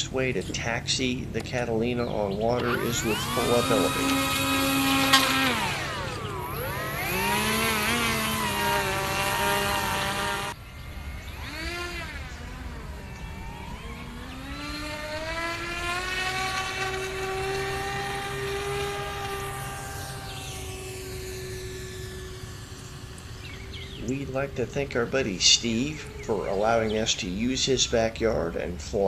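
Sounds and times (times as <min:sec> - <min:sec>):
model seaplane motors and propellers: 0:00.0 - 0:29.0.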